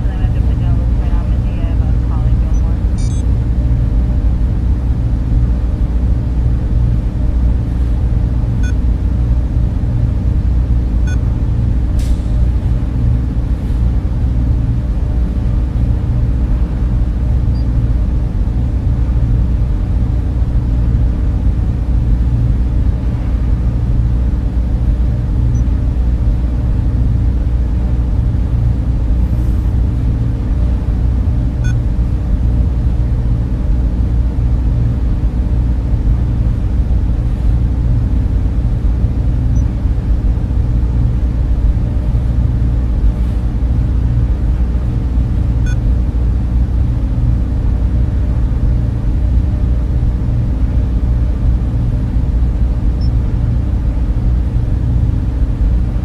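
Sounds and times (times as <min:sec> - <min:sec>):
cooling fans whirring: 0:00.0 - 0:56.0
machines humming low: 0:00.0 - 0:56.0.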